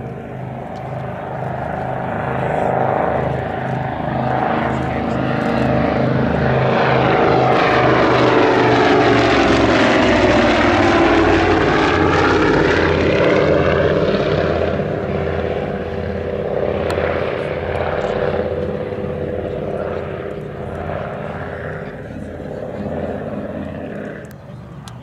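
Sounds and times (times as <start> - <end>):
propeller aircraft flying past: 0.0 - 25.0.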